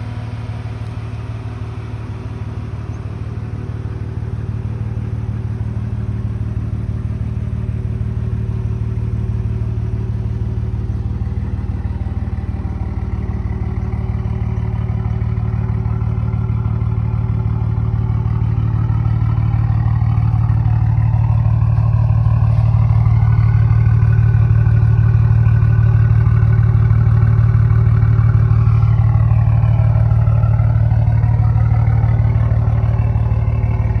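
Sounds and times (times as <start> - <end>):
car exhaust droning: 0.0 - 34.0.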